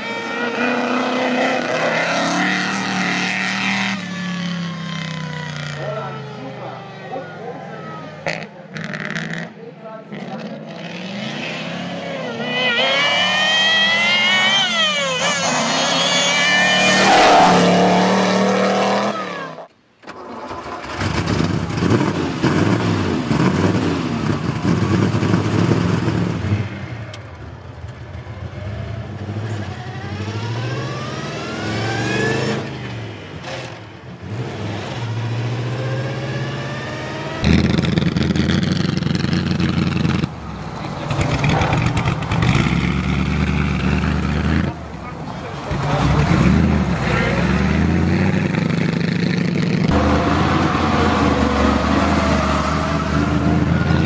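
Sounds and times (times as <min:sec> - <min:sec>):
racing car engine revving: 0:00.0 - 0:06.4, 0:07.9 - 0:19.7, 0:28.4 - 0:54.0.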